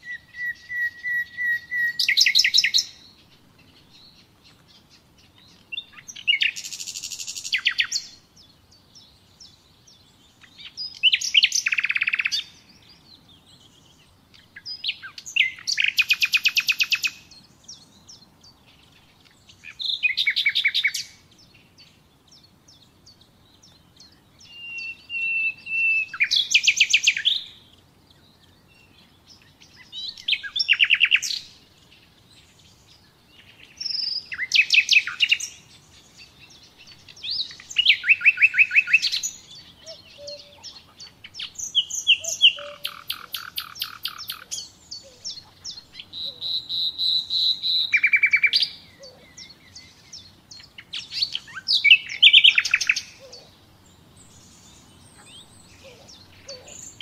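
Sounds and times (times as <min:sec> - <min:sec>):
nightingale singing: 0:00.0 - 0:57.0.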